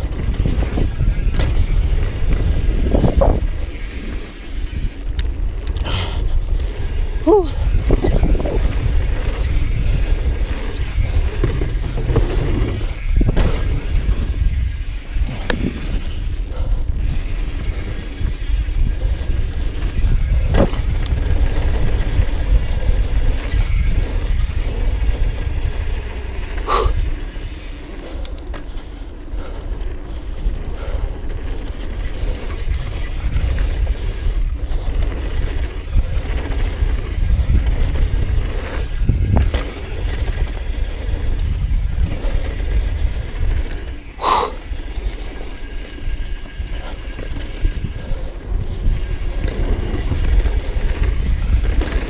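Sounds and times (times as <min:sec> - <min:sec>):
wind on microphone: 0:00.0 - 0:28.4, 0:29.4 - 0:52.0
bike chain and frame rattling: 0:00.0 - 0:52.0
bike tyres rumbling on dirt: 0:00.0 - 0:52.0.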